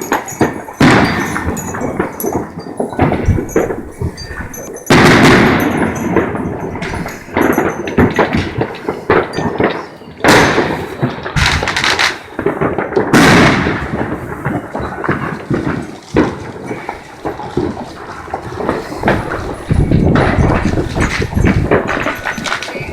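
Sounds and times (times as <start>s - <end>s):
fireworks bangs: 0.0s - 22.9s
fireworks crackles and pops: 0.0s - 22.9s.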